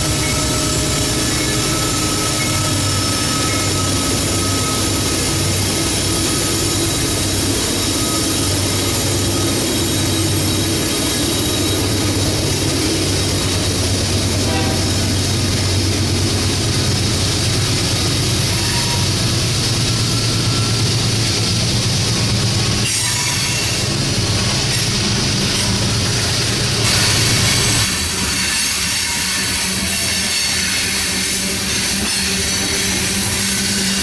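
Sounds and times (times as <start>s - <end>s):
freight train rumbling by: 0.0s - 34.0s.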